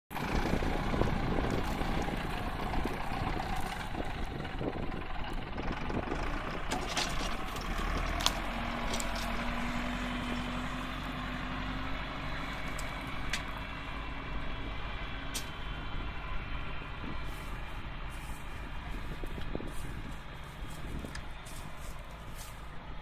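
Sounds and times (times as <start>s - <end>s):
tractor diesel engine running: 0.1s - 23.0s.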